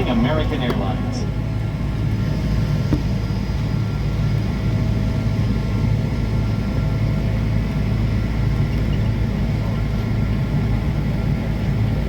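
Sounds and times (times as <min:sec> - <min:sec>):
airliner cabin rumble and hum: 0:00.0 - 0:12.0.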